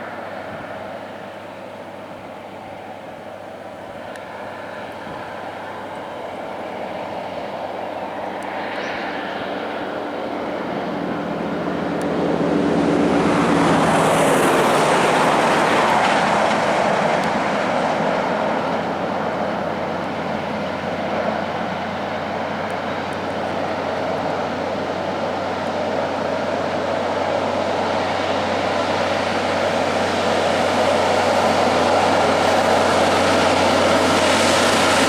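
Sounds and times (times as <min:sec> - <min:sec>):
truck diesel engine passing: 0:00.0 - 0:35.0.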